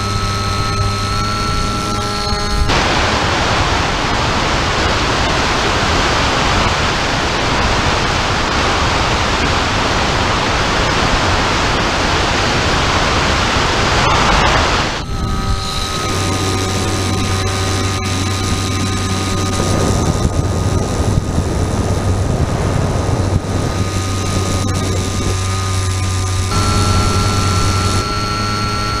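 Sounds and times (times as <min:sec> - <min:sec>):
motor whine: 0:00.0 - 0:29.0
wind rushing over microphone: 0:01.4 - 0:29.0.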